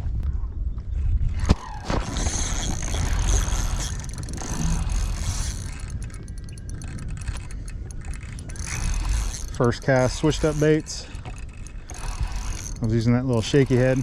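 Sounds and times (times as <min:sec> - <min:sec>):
fishing reel clicking and whirring: 0:01.4 - 0:14.0.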